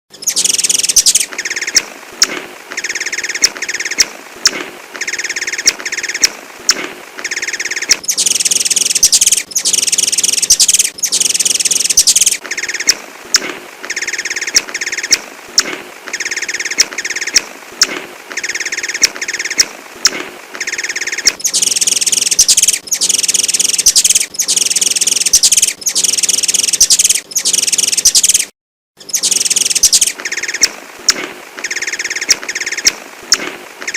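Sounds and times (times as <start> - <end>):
small songbird chirping: 0.1 - 19.7, 20.6 - 33.9
sharp bird ticks: 0.2 - 33.9.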